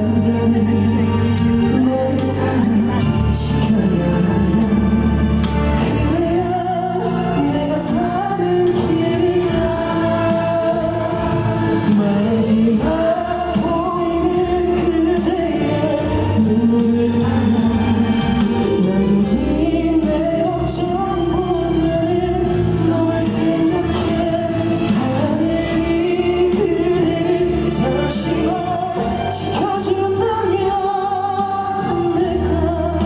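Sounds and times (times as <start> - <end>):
instrumental accompaniment: 0.0 - 33.0
man singing a slow ballad: 0.0 - 33.0.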